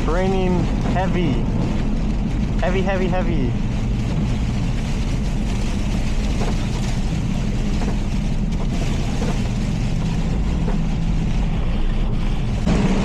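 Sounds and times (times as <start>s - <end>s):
engine and tyres drone: 0.0s - 13.0s
rain and road spray hiss: 0.0s - 13.0s.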